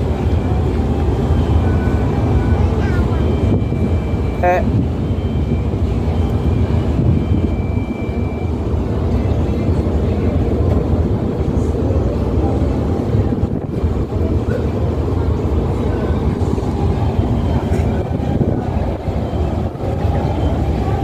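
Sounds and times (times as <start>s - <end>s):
ship low rumble: 0.0s - 21.0s.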